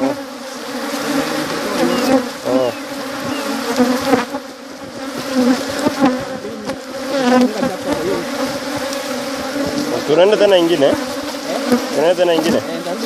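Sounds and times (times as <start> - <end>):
honeybees buzzing: 0.0 - 13.0
single bees flying past: 0.0 - 13.0.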